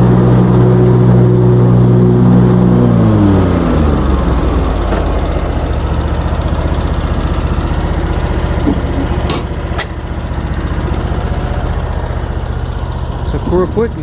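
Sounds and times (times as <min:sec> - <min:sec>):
lawn mower engine idling: 0:00.0 - 0:14.0.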